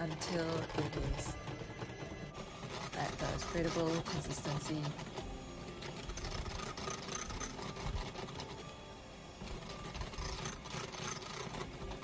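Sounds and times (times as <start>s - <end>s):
electric mixer whisking: 0.0s - 12.0s.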